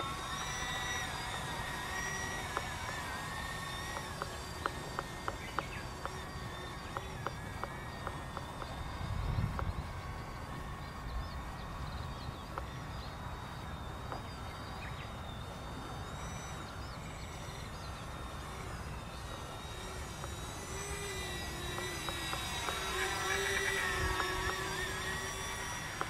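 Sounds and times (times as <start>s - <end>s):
model jet fan whine: 0.0s - 26.0s.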